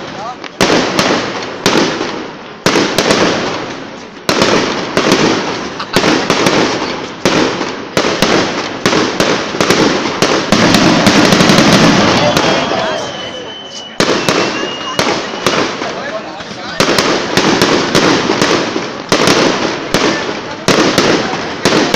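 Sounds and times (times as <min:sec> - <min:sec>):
fireworks bangs with rolling rumble: 0:00.0 - 0:21.9.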